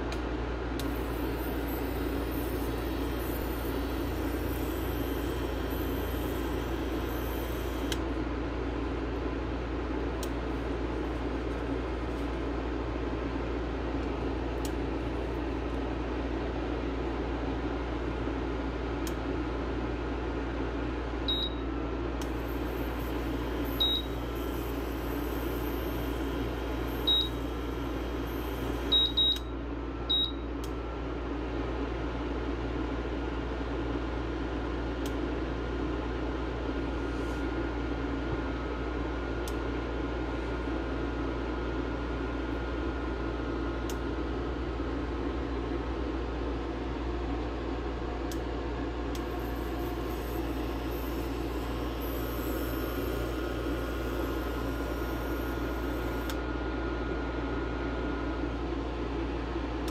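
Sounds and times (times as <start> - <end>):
steady fan hum: 0.0 - 59.9.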